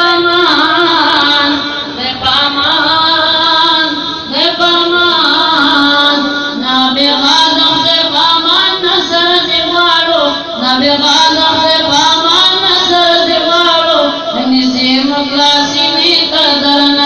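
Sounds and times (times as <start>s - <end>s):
person chanting unaccompanied: 0.0s - 17.0s.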